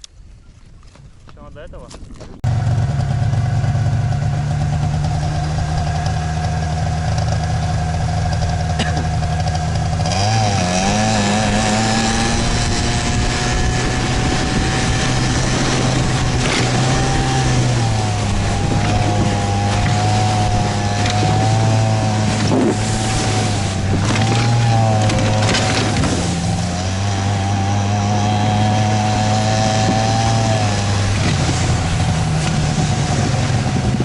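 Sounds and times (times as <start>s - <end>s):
vehicle engine revving: 2.4s - 34.0s.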